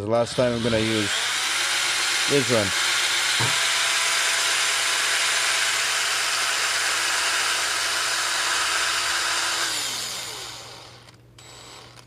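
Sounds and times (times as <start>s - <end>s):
electric drill whining: 0.0s - 12.0s.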